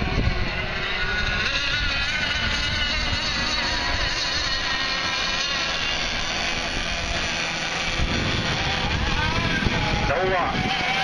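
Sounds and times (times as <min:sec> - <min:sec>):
model boat engines whining: 0:00.0 - 0:11.0.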